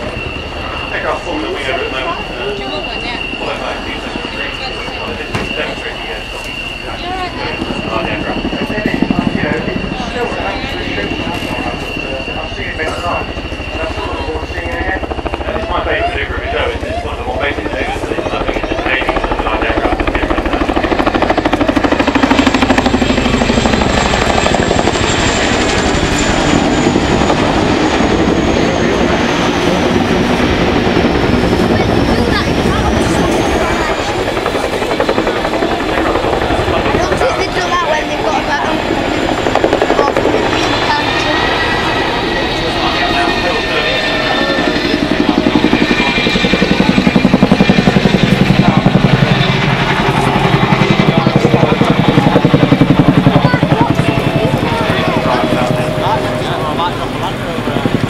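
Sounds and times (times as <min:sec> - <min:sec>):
high turbine whine: 0:00.0 - 0:58.0
helicopter rotor blade slap: 0:01.0 - 0:58.0.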